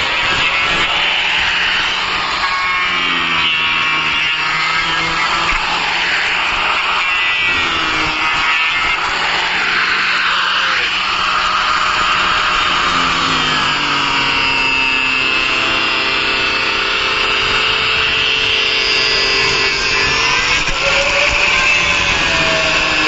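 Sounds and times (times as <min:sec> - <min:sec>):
power tool working wood: 0:00.0 - 0:23.0.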